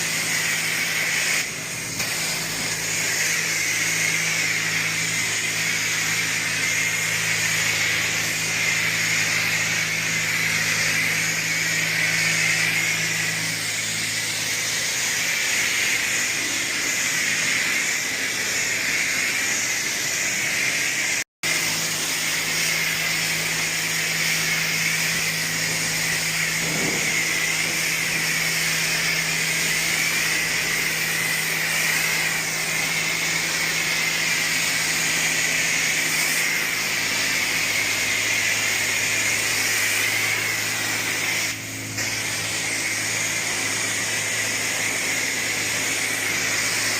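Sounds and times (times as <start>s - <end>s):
pressure washer spraying water: 0.0s - 46.9s.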